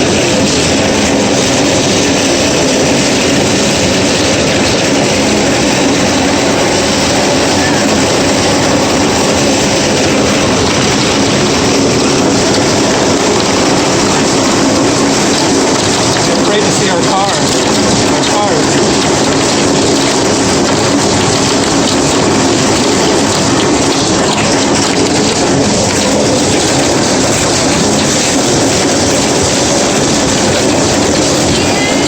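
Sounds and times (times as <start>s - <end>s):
hailstones striking hard surfaces: 0.0s - 32.0s.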